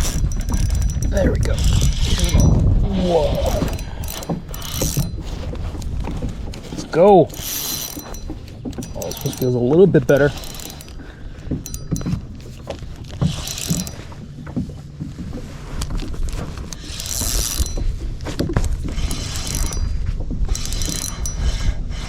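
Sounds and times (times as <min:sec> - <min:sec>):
fishing reel cranking: 0:00.0 - 0:05.9, 0:07.0 - 0:14.2, 0:15.8 - 0:22.0
wind rumble on microphone: 0:00.0 - 0:07.4, 0:08.3 - 0:22.0.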